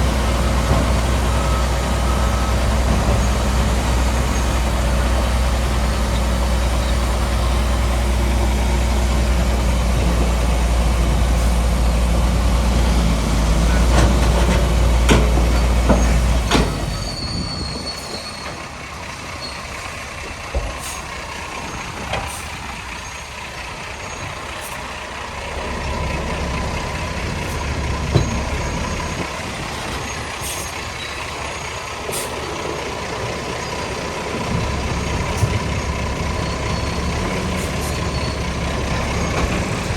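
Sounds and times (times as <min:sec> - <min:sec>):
diesel machinery engine rumble: 0:00.0 - 0:39.9.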